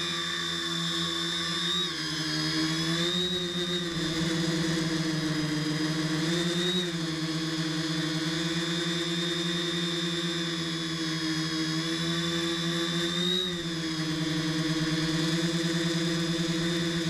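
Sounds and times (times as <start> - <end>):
drone motors whirring: 0.0 - 17.0.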